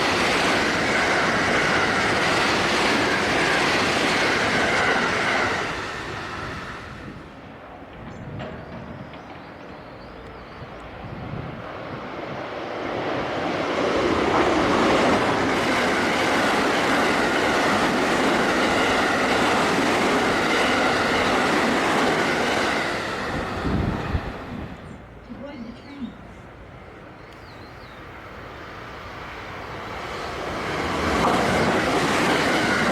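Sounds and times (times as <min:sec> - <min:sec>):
train clickety-clack: 0:00.0 - 0:25.6, 0:29.6 - 0:32.9
train wheels rushing on rail: 0:00.0 - 0:32.9.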